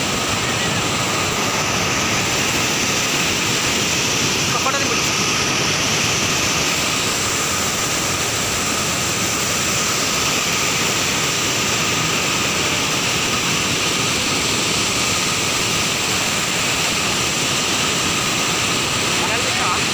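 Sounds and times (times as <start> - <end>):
water rushing over weir: 0.0 - 19.9.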